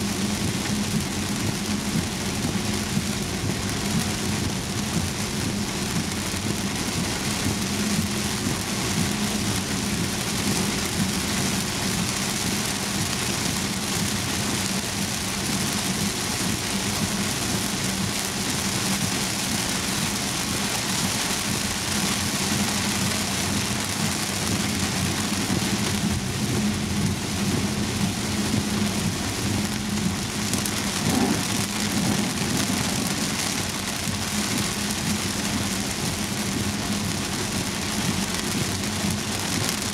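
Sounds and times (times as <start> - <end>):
car hum on wet road: 0.0 - 39.9
heavy rain on car windscreen: 0.0 - 39.9.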